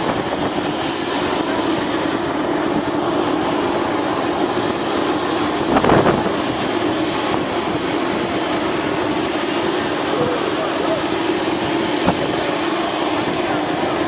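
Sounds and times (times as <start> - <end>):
wind buffeting microphone: 0.0 - 3.7, 4.4 - 13.9
jet engine rumble: 0.0 - 14.0
jet engine whine: 0.0 - 14.0.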